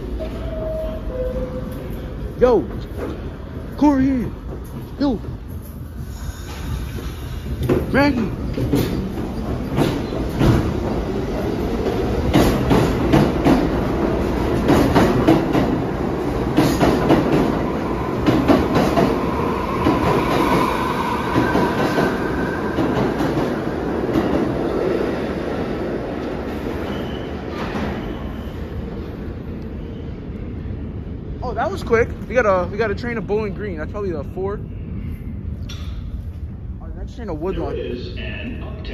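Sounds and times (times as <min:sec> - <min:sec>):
subway train wheels clattering: 0:00.0 - 0:38.9.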